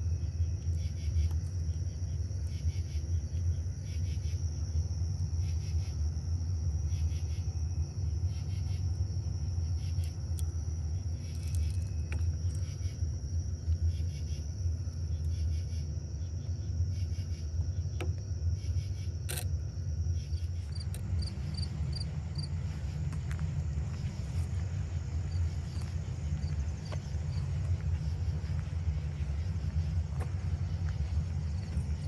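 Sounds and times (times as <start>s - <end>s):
insects trilling: 0.0s - 32.0s
steady low rumble: 0.0s - 32.0s.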